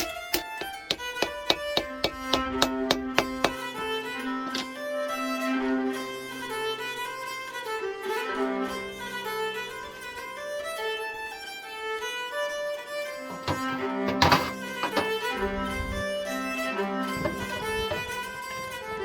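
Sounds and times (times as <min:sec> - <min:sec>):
folk fiddle music: 0:00.0 - 0:19.0.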